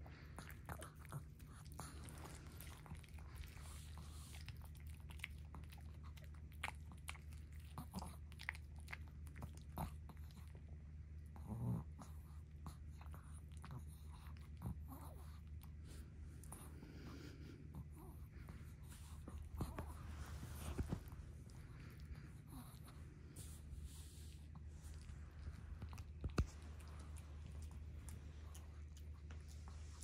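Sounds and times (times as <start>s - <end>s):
dog chewing and licking lips: 0.0s - 30.0s.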